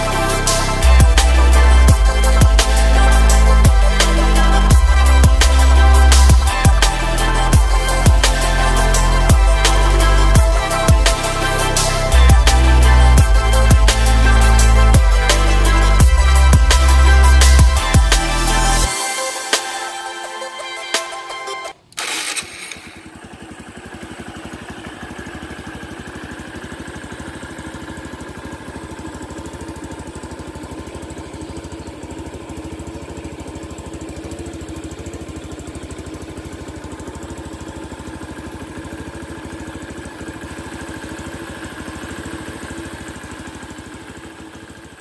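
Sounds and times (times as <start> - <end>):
motorcycle engine idling: 0.0 - 19.0, 21.8 - 45.0.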